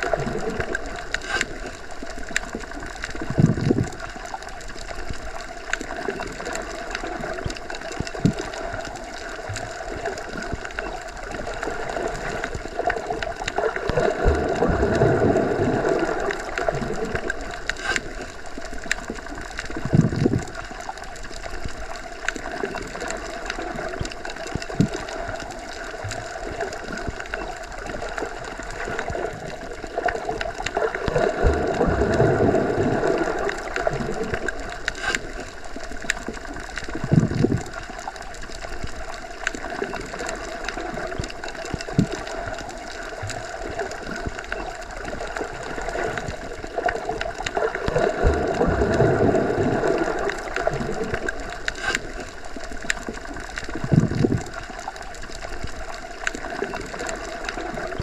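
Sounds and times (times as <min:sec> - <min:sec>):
low water surges: 0:00.0 - 0:58.0
underwater water noise: 0:00.0 - 0:58.0
small clicks: 0:00.2 - 0:14.2, 0:16.2 - 0:31.5, 0:33.4 - 0:48.0, 0:50.3 - 0:58.0.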